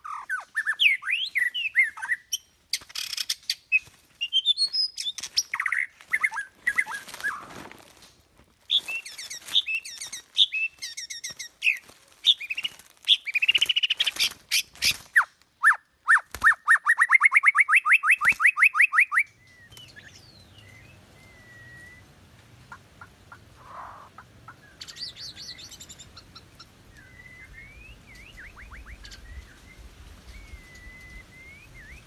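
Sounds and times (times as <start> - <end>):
bird song with chirps and trills: 0.0 - 7.5, 8.7 - 32.0.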